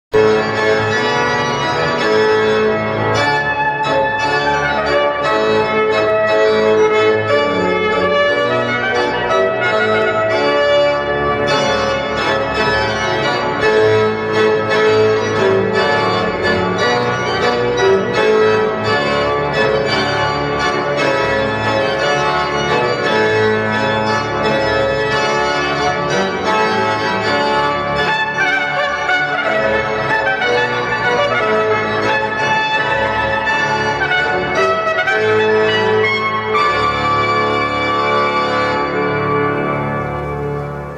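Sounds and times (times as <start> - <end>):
organ chords: 0.2 - 40.9.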